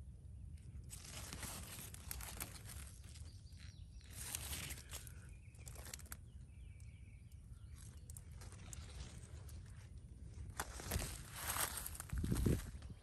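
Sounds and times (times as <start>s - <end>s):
leaves rustling against phone: 0.7s - 6.6s, 7.4s - 13.0s.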